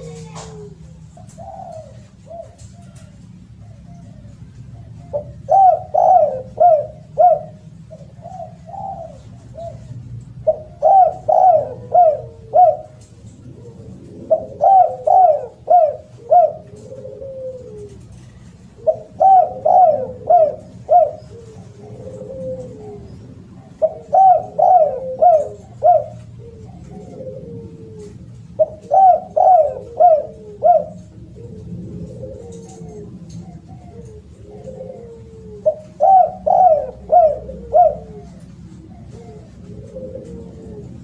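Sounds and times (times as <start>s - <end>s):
dove cooing: 0.0s - 41.0s.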